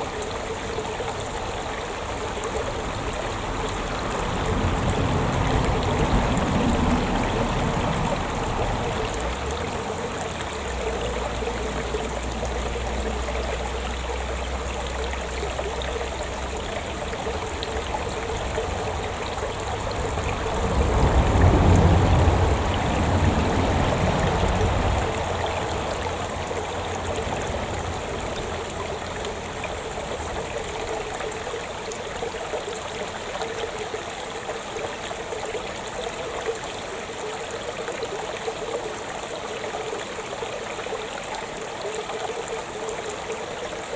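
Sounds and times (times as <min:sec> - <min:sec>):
stream trickling: 0:00.0 - 0:43.9.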